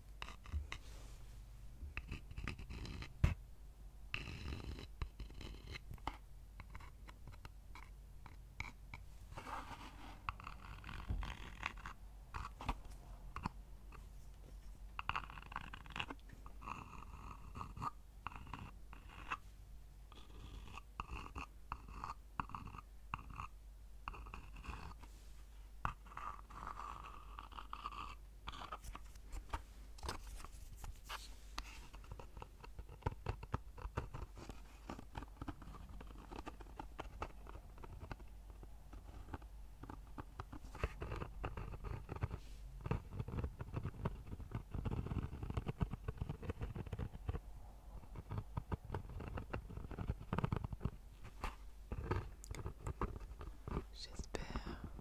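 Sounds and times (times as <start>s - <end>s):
scratching on wood: 4.2s - 19.4s, 25.9s - 55.0s.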